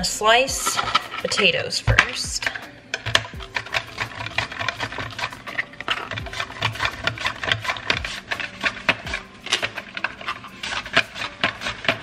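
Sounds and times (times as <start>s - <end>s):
mandoline slicing potato: 2.0s - 12.0s.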